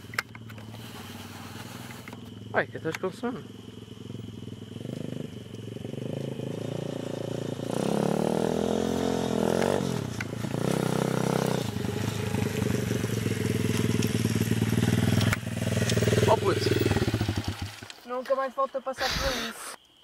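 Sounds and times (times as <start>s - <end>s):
pit bike engine revving: 0.0s - 17.9s.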